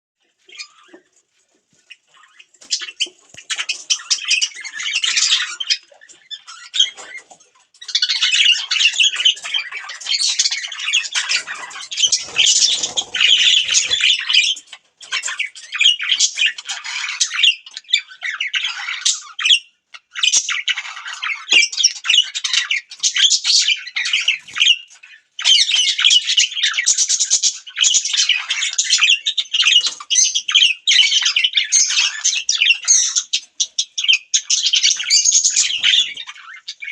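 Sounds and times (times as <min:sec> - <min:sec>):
budgerigars chirping and chattering: 0:00.2 - 0:36.9.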